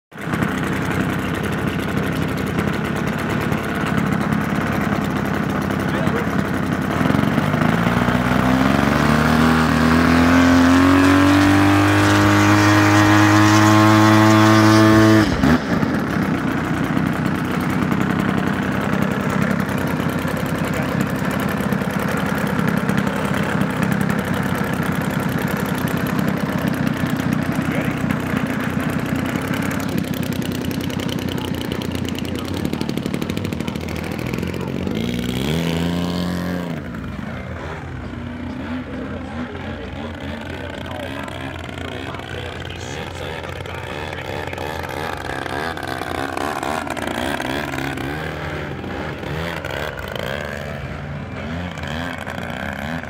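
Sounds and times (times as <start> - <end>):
model plane engine and propeller: 0.1 - 53.0.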